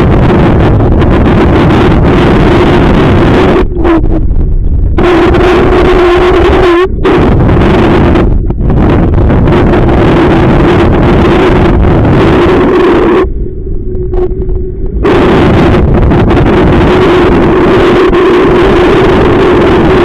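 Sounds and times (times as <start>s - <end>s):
steady hum: 0.0s - 20.0s
strong wind buffeting microphone: 0.0s - 20.0s.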